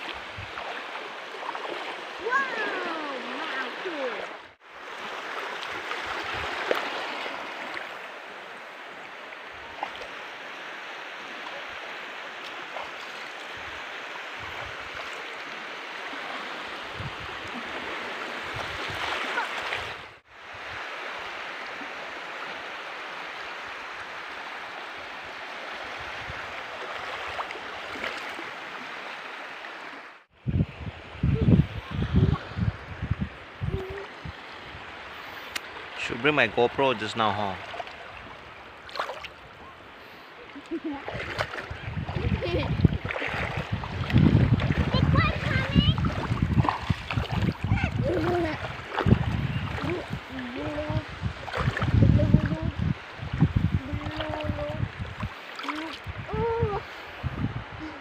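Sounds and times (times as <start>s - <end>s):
water splashing: 0.0s - 20.2s, 24.0s - 30.3s, 31.4s - 57.1s
small waves lapping: 0.0s - 58.0s.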